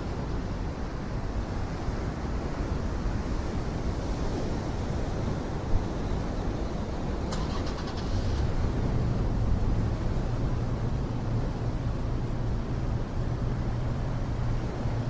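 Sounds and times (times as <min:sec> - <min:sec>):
surf washing over rocks: 0:00.1 - 0:15.0.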